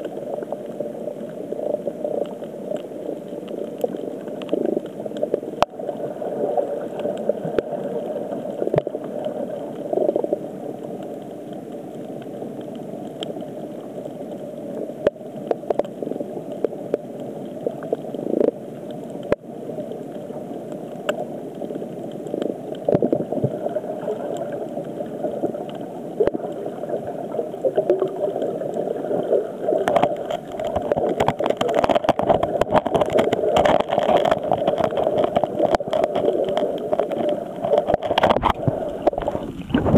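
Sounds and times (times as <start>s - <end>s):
underwater clicks and crackles: 0.0s - 39.9s
underwater low rumble: 0.0s - 39.9s.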